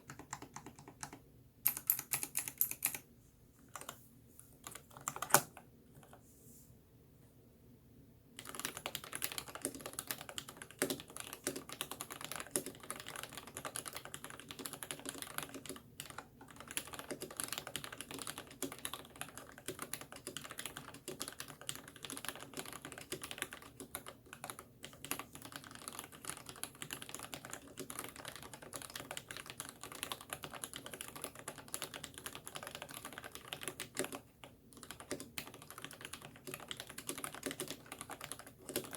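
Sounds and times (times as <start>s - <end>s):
typing on mechanical keyboard: 0.0s - 3.1s, 3.7s - 4.0s, 4.6s - 6.2s, 8.4s - 38.9s.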